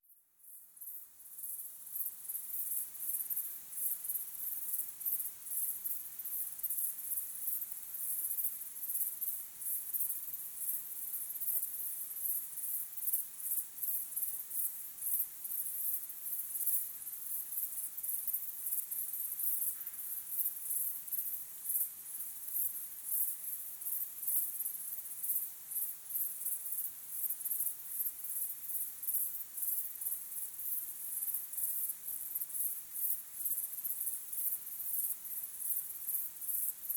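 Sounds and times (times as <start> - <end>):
crickets chirping: 0.4 - 36.9.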